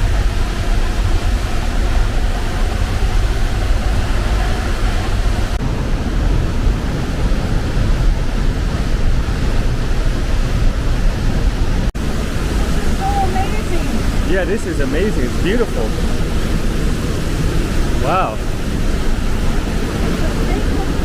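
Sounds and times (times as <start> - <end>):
waterfall roaring: 0.0 - 21.0
wind buffeting microphone: 0.0 - 21.0.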